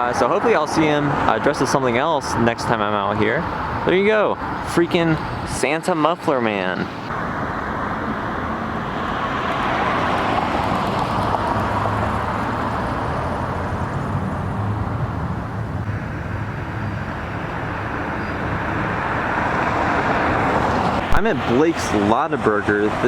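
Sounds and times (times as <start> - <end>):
road traffic rushing: 0.0 - 23.0.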